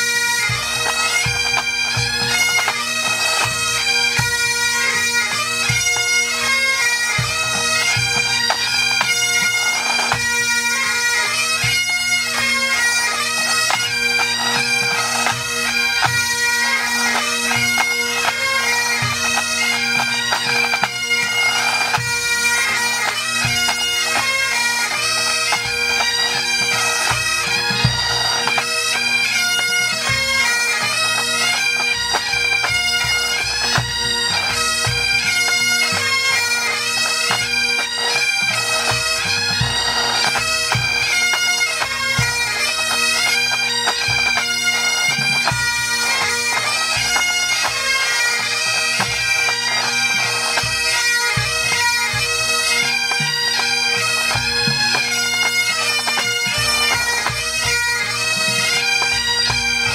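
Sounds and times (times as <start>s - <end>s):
bagpipes playing melody: 0.0s - 59.9s.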